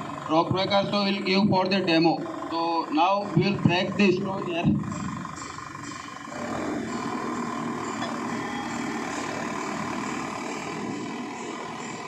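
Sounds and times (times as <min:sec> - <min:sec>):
diesel engine running: 0:00.0 - 0:12.0
thin steady whine: 0:00.0 - 0:12.0.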